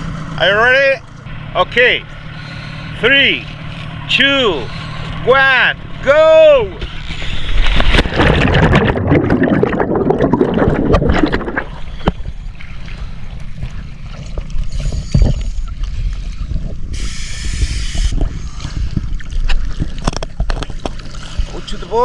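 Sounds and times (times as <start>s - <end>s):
water sloshing and gurgling: 0.0s - 22.0s
water splashing: 0.0s - 22.0s.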